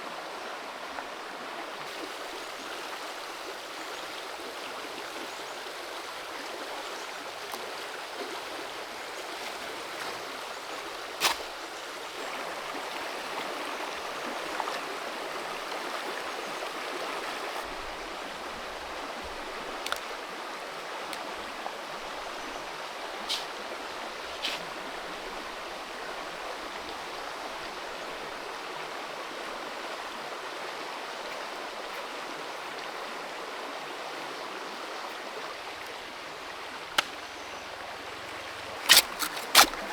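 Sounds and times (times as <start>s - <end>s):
creek flowing: 0.0s - 39.9s.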